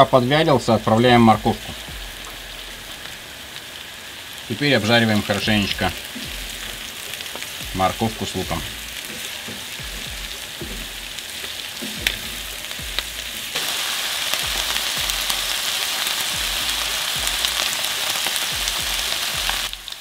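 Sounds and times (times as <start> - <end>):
meat frying in oil: 0.0 - 20.0
vegetables sizzling in oil: 0.0 - 20.0.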